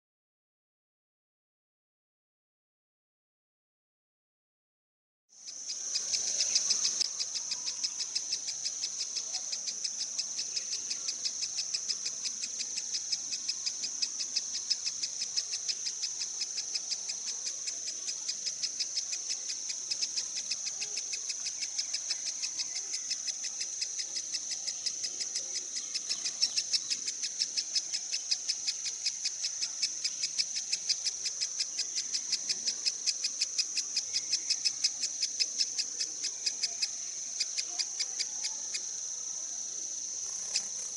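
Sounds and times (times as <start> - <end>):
insect trilling: 5.4 - 40.9.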